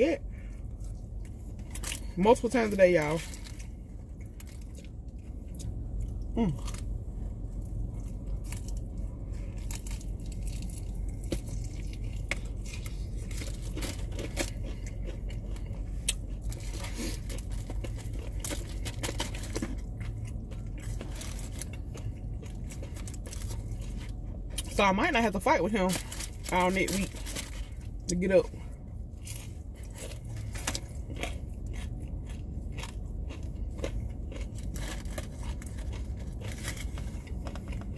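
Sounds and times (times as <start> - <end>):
crunching fried chicken: 0.0 - 37.9
steady low hum: 0.0 - 37.9.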